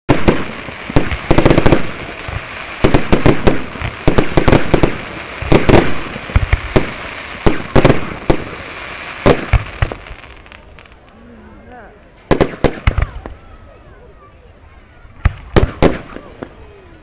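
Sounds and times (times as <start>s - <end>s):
fireworks bangs and pops: 0.1s - 11.2s, 12.0s - 13.5s, 15.2s - 17.0s.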